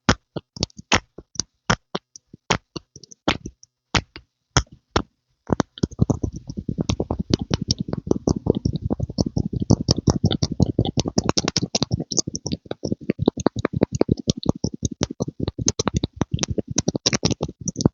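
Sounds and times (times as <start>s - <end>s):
close-miked popping sounds: 0.0s - 17.9s.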